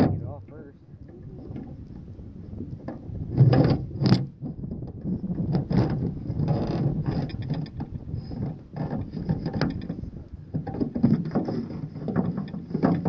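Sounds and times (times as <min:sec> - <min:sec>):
hands rustling and scraping cord: 0:01.1 - 0:13.0.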